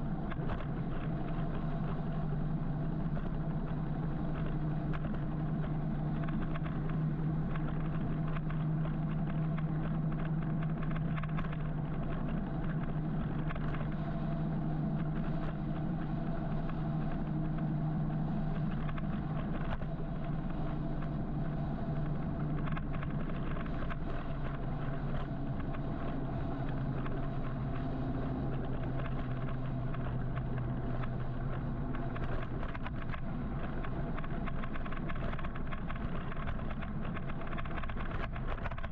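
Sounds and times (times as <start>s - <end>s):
road noise: 0.0s - 38.9s
traffic engine hum: 0.0s - 38.9s.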